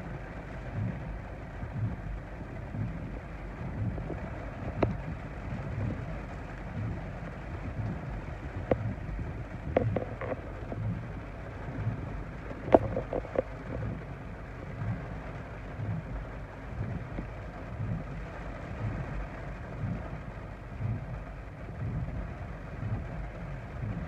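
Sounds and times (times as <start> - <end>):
heavy rain on a car: 0.0 - 24.0
windshield wipers sweeping: 0.0 - 24.0.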